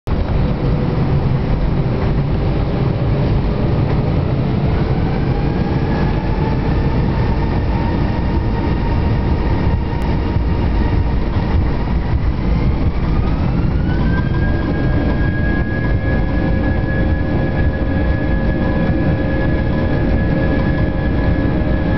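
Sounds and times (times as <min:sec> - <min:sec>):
low cabin rumble: 0:00.0 - 0:21.9
whining jet engine: 0:00.1 - 0:21.9.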